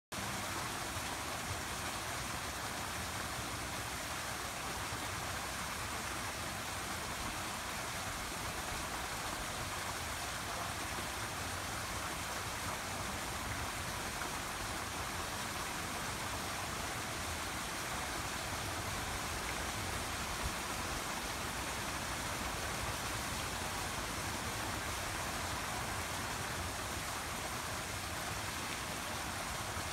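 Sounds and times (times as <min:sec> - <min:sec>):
water rushing: 0:00.2 - 0:29.9.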